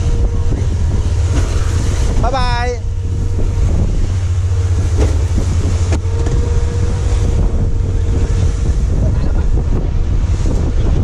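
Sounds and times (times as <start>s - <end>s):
low drone: 0.0s - 11.0s
spray and waves rushing past: 0.0s - 11.0s
wind buffeting microphone: 0.0s - 11.0s.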